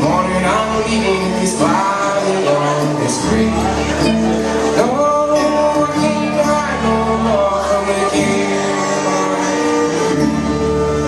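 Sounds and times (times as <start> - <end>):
guitar: 0.0 - 11.0
live country band playing: 0.0 - 11.0.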